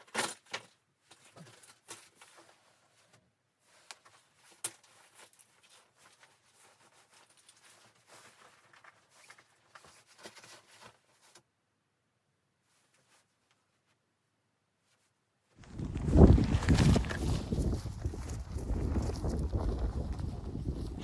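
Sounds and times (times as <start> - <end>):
rustling: 0.0 - 11.5, 12.6 - 21.0.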